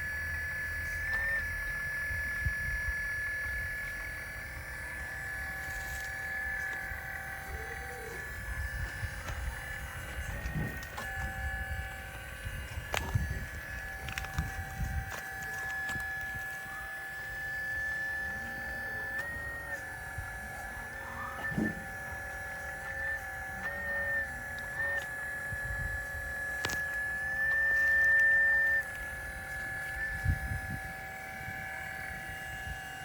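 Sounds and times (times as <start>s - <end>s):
electric pump motor whine: 0.0s - 33.0s.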